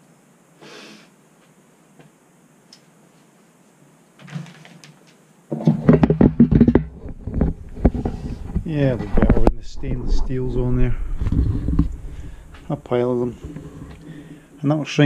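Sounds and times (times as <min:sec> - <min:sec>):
faint workshop rustling: 0:01.3 - 0:15.0.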